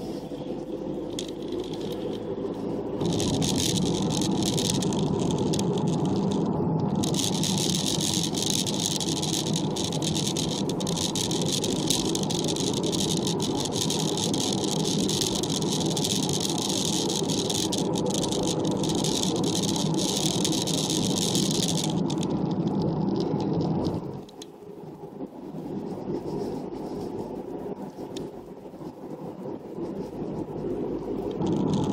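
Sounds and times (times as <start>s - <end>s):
vehicle engine and road noise: 0.0s - 31.9s.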